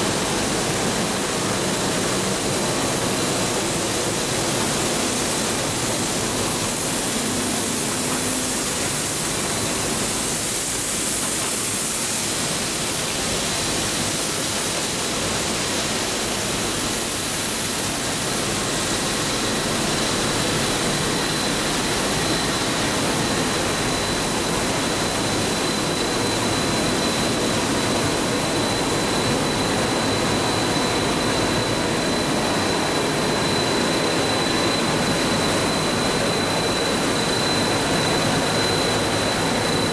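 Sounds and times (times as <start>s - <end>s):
production line machinery running: 0.0s - 39.9s
thin high whine: 0.6s - 11.0s, 18.0s - 39.9s.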